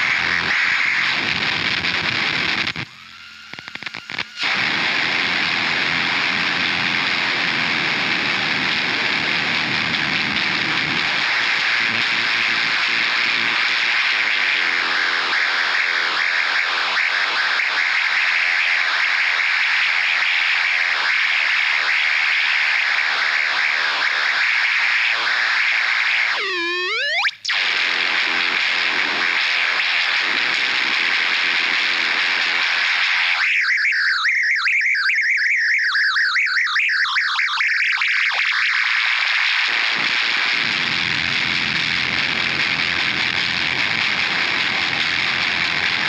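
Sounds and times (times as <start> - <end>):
dense harsh electronic noise: 0.0 - 33.7, 38.2 - 46.0.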